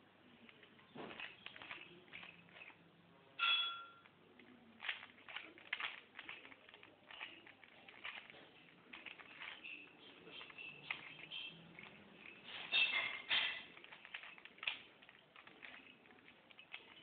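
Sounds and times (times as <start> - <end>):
puzzle cube clicking and rattling: 0.4 - 2.9, 4.0 - 17.0.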